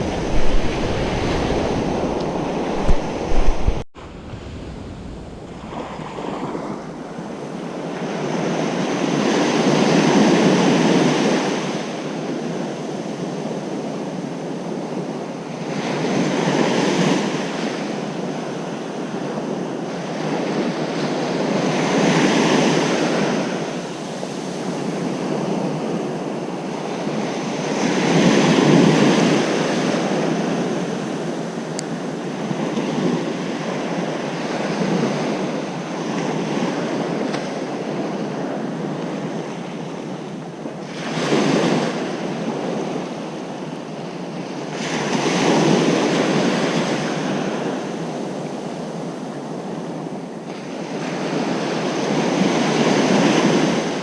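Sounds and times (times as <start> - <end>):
ocean surf breaking on beach: 0.0 - 54.0
wind rumbling on microphone: 0.0 - 54.0.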